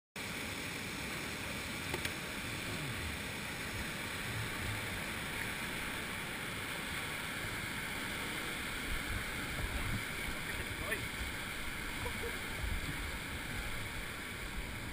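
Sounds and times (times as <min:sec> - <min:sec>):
waterfall roaring: 0:00.2 - 0:14.9.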